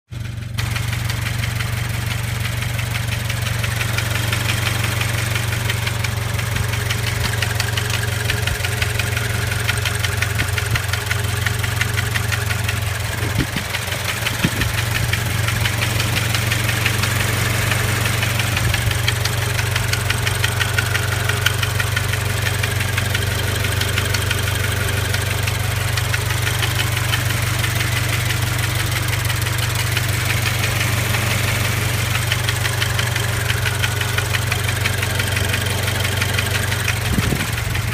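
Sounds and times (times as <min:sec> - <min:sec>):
car engine running: 0:00.1 - 0:37.9
fast metallic rattle: 0:00.6 - 0:37.9.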